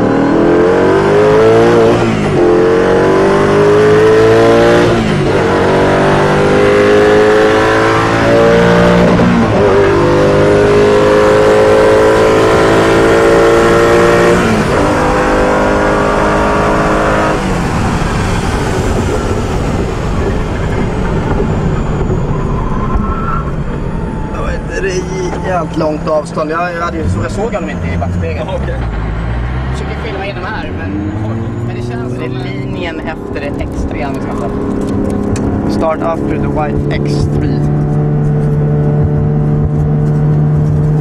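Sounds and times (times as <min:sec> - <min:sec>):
car engine at full throttle: 0:00.0 - 0:41.0
gear upshifts: 0:00.0 - 0:41.0
wind and road noise: 0:00.0 - 0:41.0.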